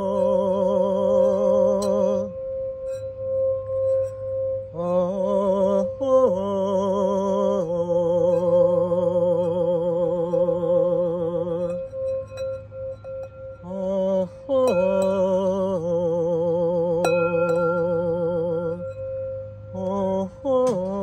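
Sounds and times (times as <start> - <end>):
woman singing wordless notes: 0.0 - 2.7, 4.6 - 12.3, 13.6 - 21.0
crystal singing bowl ringing: 0.0 - 21.0.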